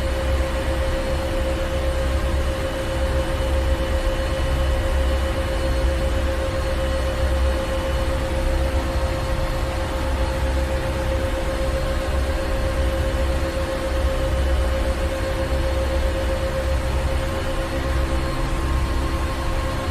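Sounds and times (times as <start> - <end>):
constant hum: 0.0 - 19.9.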